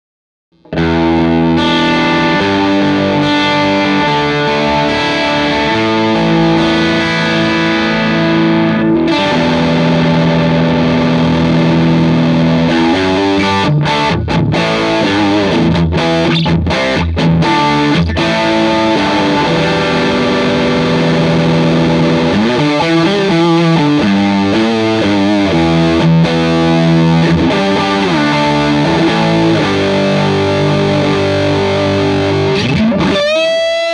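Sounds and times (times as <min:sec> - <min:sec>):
overdriven electric guitar: 0:00.5 - 0:33.9.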